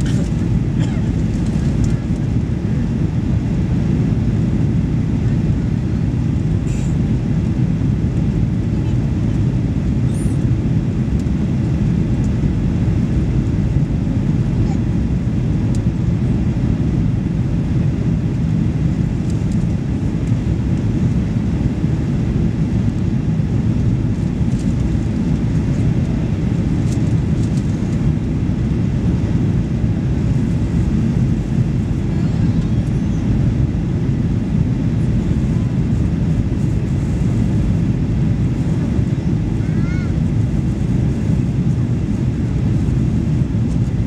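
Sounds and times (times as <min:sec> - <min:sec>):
airliner cabin roar: 0:00.0 - 0:44.0.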